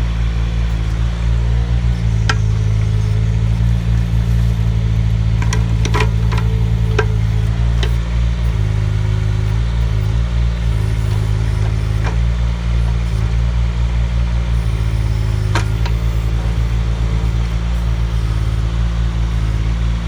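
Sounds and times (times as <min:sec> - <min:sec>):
excavator engine running: 0:00.0 - 0:20.0
high pitch-shifting hum: 0:00.0 - 0:20.0.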